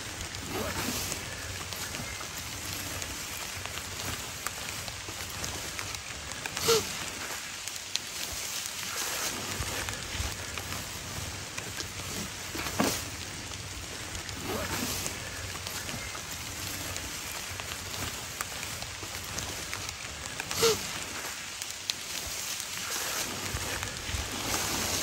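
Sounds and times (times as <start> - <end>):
dry leaves crackling and rustling: 0.0 - 25.0.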